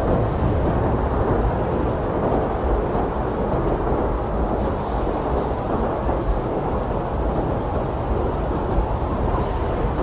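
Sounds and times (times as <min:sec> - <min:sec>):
blizzard wind blowing hard: 0:00.0 - 0:10.0.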